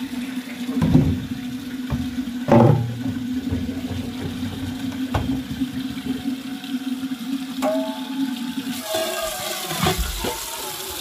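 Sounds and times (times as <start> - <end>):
tap water pouring into metal pot: 0.0 - 11.0.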